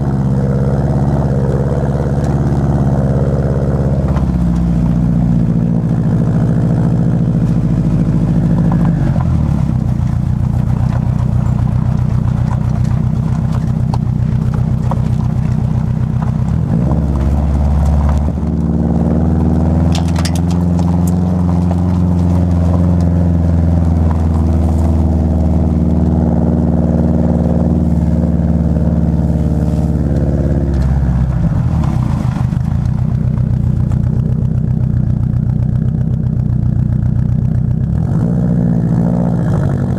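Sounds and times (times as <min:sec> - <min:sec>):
car engine and exhaust running: 0:00.0 - 0:39.9.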